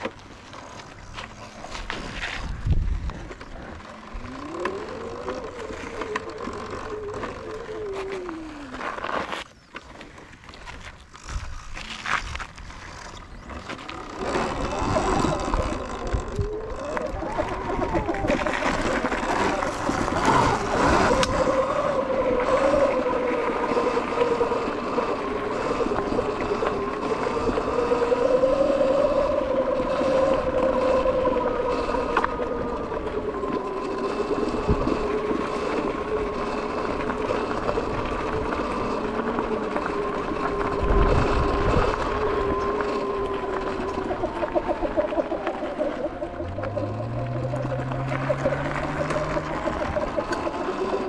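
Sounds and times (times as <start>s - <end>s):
electric motor whine: 0.0s - 9.4s, 11.0s - 51.0s
tyres rushing on dirt: 0.0s - 51.0s.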